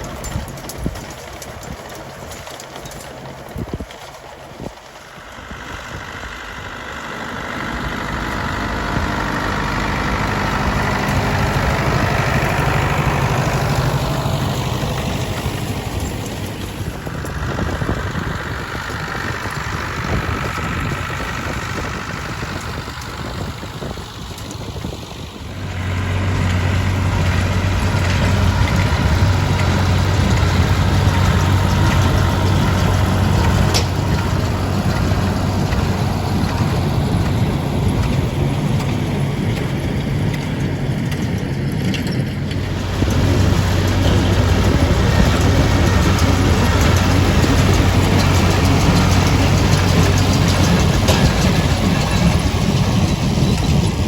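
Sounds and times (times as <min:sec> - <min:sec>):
tractor diesel engines running: 0:00.0 - 0:54.0.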